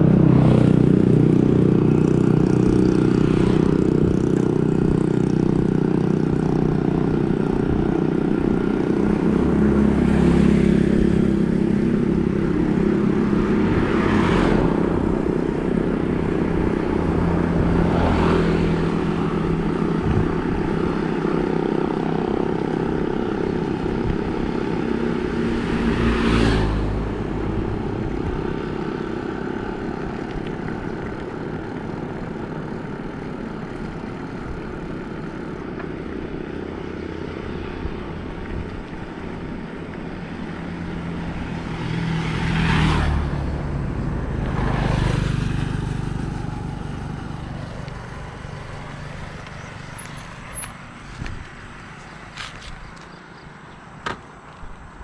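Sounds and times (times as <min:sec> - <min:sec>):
vehicle passing close: 0:00.0 - 0:53.1
bicycle tyres rolling on road: 0:00.0 - 0:55.0.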